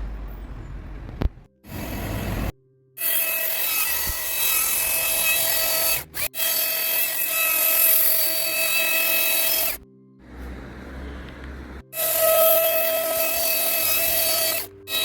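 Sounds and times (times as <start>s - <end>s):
power tool whining on wood: 1.7s - 15.0s.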